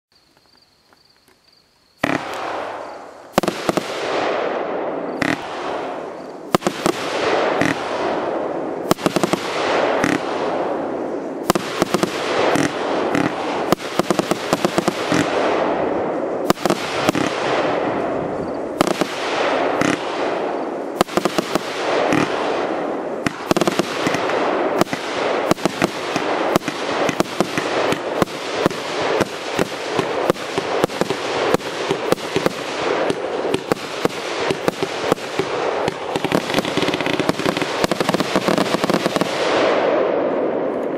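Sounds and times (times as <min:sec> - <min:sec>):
fireworks launching and bursting: 0:02.0 - 0:40.9.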